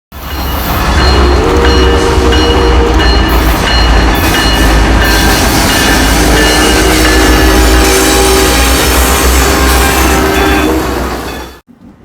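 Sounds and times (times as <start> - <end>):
train rumbling past: 0.1 - 12.0.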